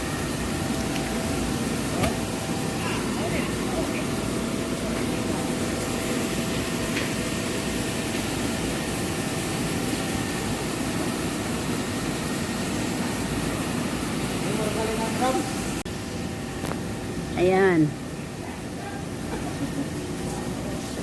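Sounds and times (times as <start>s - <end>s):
milling machinery drone: 0.0s - 21.0s.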